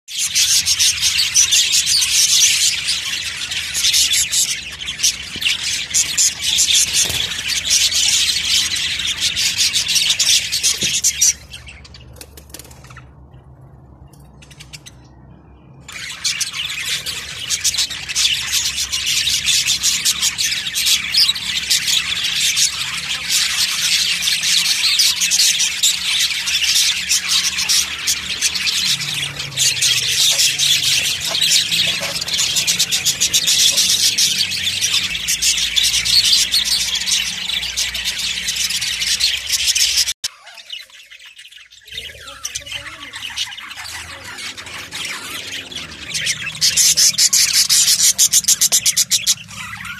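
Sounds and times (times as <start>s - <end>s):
budgerigars chattering: 0.1s - 13.2s, 15.9s - 49.9s.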